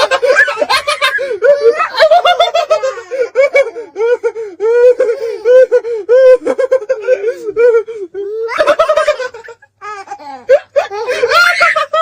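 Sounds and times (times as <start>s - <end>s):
high-pitched laughter: 0.0s - 12.0s.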